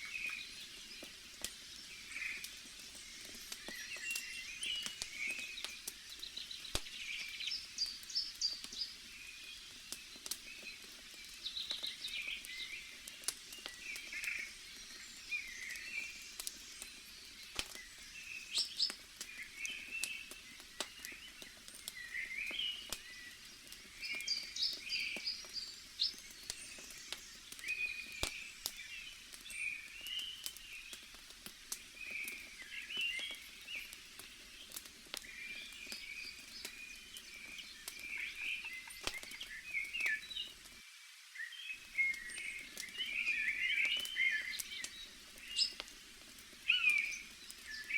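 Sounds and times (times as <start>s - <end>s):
campfire crackling: 0.0s - 47.9s
small birds chirping: 0.0s - 47.9s.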